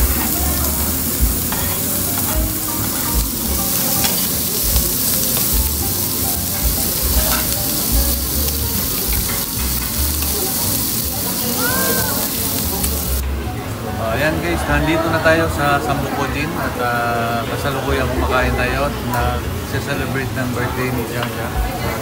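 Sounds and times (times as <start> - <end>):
meat sizzling on grill: 0.0 - 13.3, 13.9 - 22.0.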